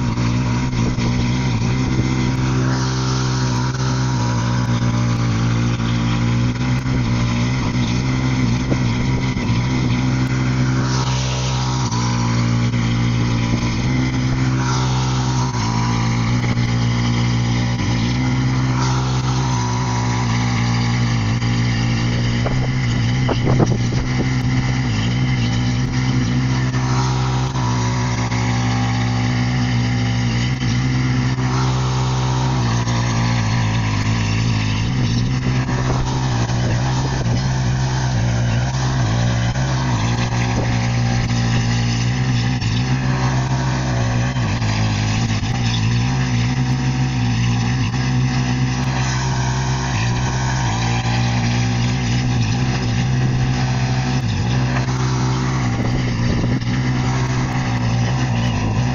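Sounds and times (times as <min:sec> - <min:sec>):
garden tractor engine running: 0:00.0 - 0:58.9.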